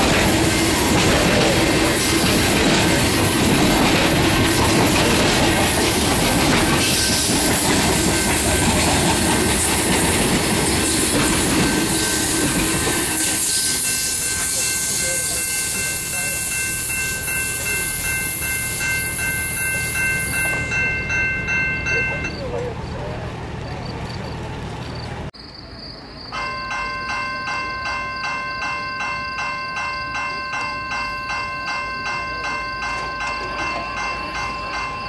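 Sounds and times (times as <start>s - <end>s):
train wheels clacking over rails: 0.0s - 25.1s, 26.8s - 35.0s.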